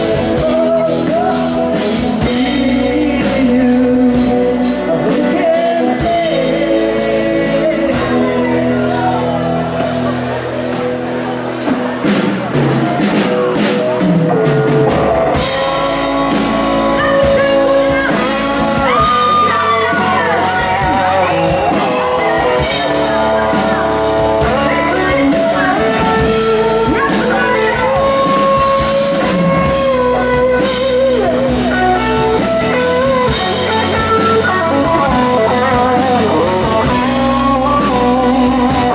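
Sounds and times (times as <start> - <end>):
man singing: 0.0 - 10.1, 15.4 - 38.9
drums and cymbals: 0.0 - 38.9
live rock band playing: 0.0 - 38.9.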